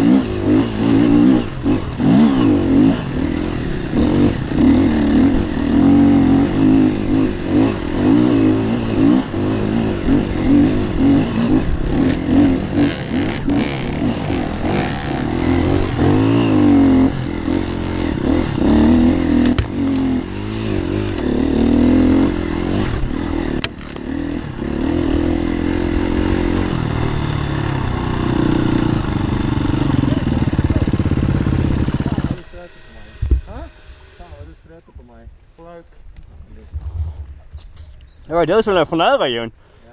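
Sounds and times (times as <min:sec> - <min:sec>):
dirt bike engine revving: 0:00.0 - 0:34.7.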